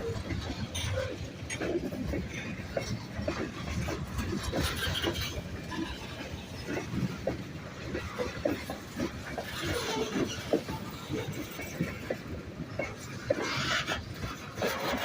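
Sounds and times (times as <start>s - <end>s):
clanks and knocks from rail cars: 0.0s - 15.0s
train rumbling past: 0.0s - 15.0s.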